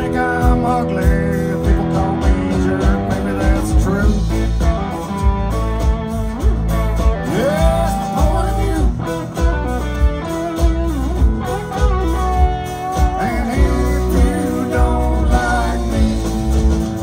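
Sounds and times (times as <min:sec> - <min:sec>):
country band playing: 0:00.0 - 0:17.0
lead guitar bending notes: 0:00.0 - 0:17.0.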